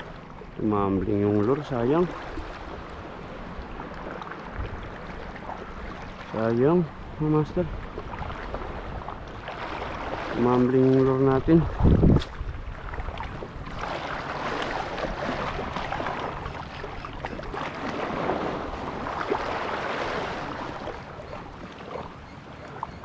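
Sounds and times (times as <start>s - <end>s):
small waves lapping on shore: 0.0s - 23.0s.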